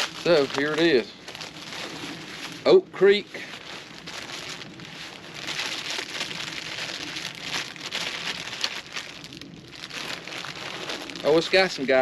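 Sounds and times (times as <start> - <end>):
tarp fabric rustling: 0.0 - 12.0.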